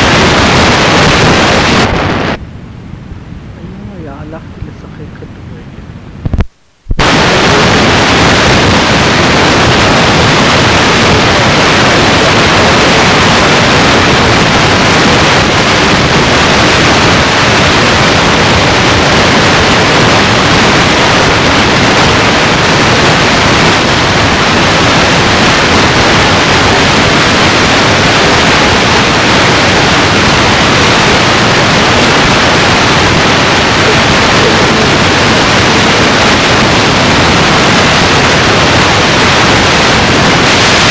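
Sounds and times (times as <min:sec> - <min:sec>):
loud static hiss: 0:00.0 - 0:40.9.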